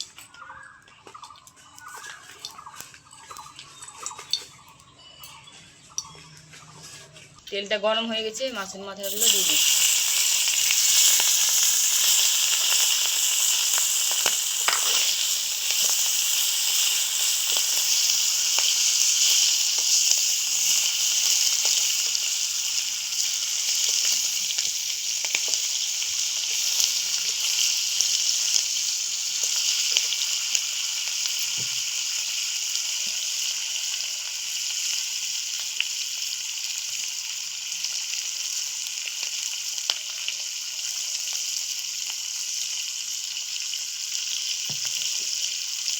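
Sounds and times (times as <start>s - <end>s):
fish frying in oil: 8.2s - 45.9s.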